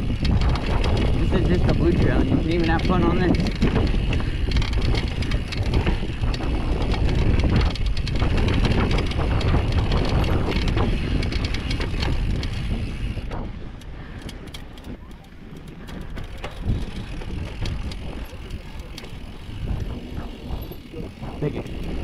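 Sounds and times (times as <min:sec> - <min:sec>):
bike knocking and rattling: 0:00.0 - 0:22.0
wind buffeting microphone: 0:00.0 - 0:22.0.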